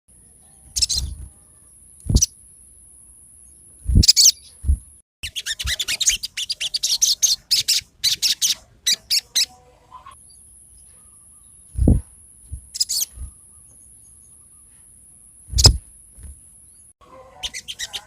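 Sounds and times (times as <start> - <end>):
bird chirping: 0.1 - 18.0.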